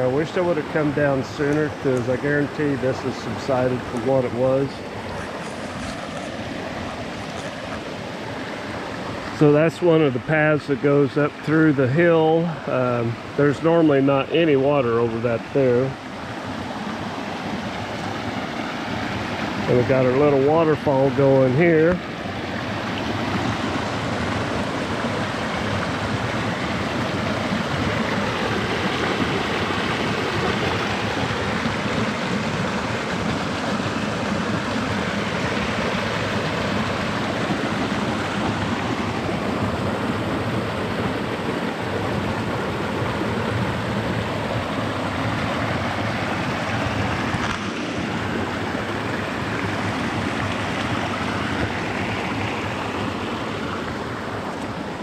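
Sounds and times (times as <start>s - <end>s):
water rushing over waterfall: 0.0s - 55.0s.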